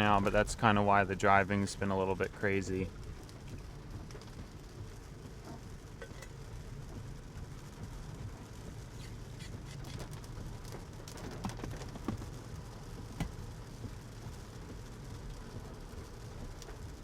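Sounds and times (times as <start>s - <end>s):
heavy rain on car roof: 0.0s - 17.0s
low road rumble: 0.0s - 17.0s.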